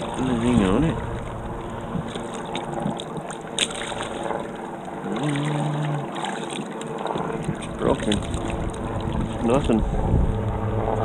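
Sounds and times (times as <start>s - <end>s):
water splashing and dripping: 0.0s - 9.6s
short low hum: 0.0s - 11.0s.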